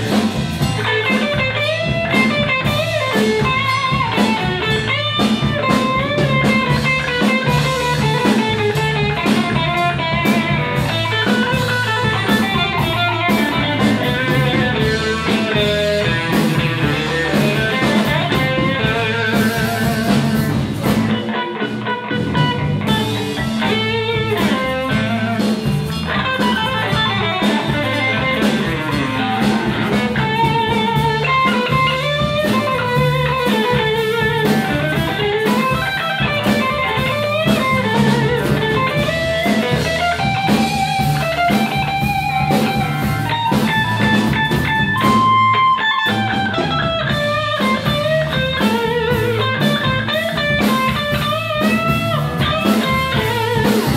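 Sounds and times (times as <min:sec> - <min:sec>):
blues band playing: 0:00.0 - 0:53.9
electric guitar lead: 0:00.0 - 0:53.9.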